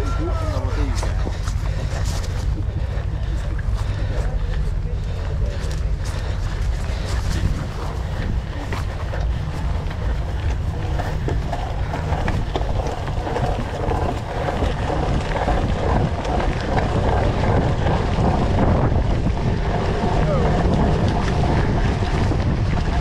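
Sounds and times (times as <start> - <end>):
bicycle tyre rumble: 0.0 - 23.0
bike rattling and knocking: 0.0 - 23.0
wind on microphone: 0.0 - 23.0.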